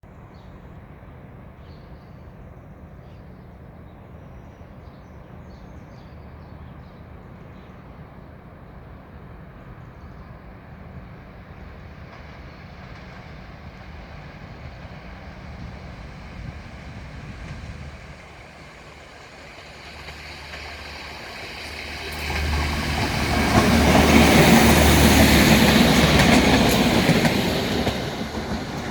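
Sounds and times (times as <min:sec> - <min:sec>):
diesel train engine and wheels: 0:00.1 - 0:28.9.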